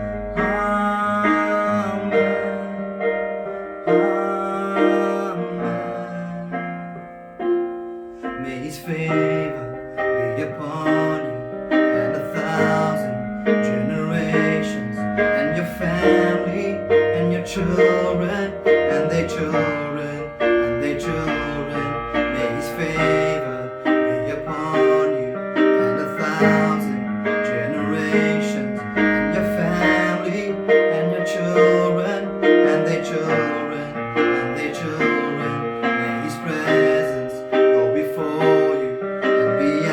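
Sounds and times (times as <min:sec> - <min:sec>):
instrumental worship piano music: 0:00.0 - 0:39.9.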